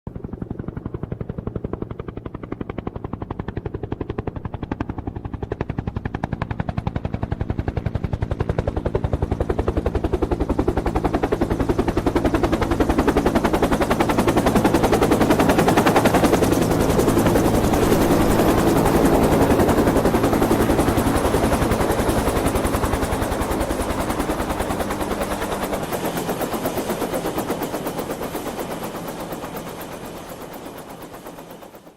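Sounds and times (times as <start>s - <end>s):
helicopter rotor blades chopping: 0.1s - 31.9s.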